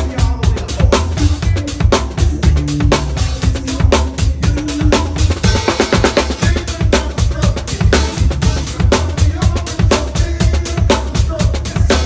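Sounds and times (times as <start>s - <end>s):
bass and band playing: 0.0s - 12.0s
drum kit funk groove: 0.0s - 12.0s.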